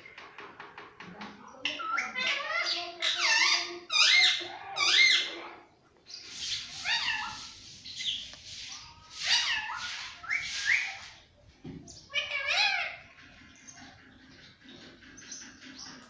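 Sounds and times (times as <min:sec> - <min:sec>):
parrot calling and chattering: 0:01.6 - 0:11.2, 0:11.9 - 0:16.0.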